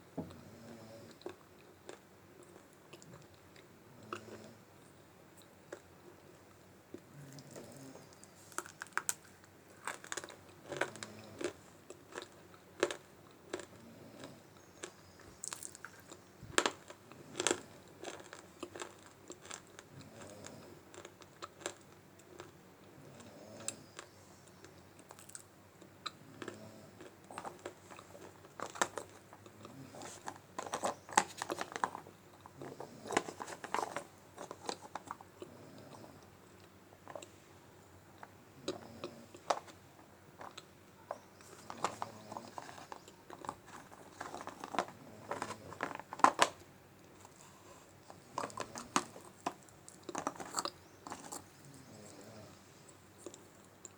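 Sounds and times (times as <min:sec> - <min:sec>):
clay being chewed crunching: 0:06.9 - 0:22.6, 0:23.2 - 0:37.4, 0:40.4 - 0:53.9.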